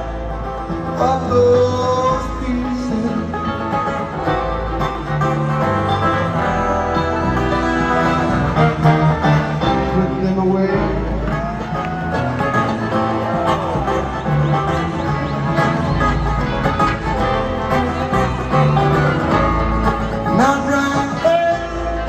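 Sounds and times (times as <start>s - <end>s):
banjo: 0.0s - 22.0s
bluegrass band playing: 0.0s - 22.0s
upright bass line: 0.0s - 22.0s.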